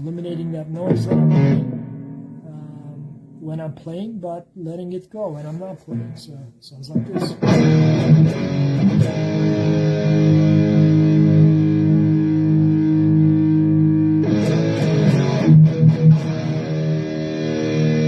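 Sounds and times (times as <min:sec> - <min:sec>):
electric guitar chords and notes: 0:00.0 - 0:03.4, 0:06.9 - 0:18.0.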